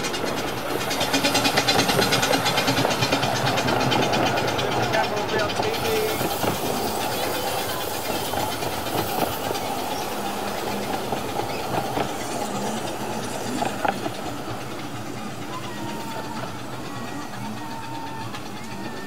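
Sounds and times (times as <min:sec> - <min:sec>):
train coaches rolling past: 0:00.0 - 0:19.0.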